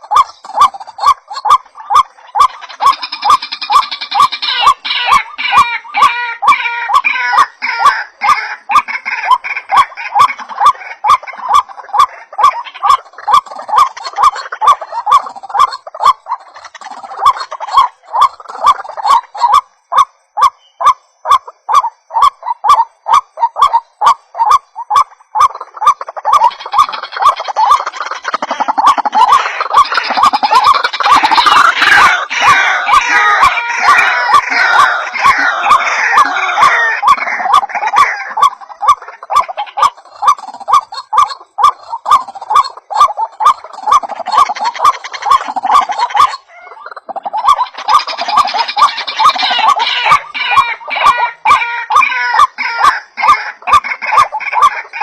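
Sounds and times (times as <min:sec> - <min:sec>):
waterhen croaking calls: 0:00.0 - 0:55.0.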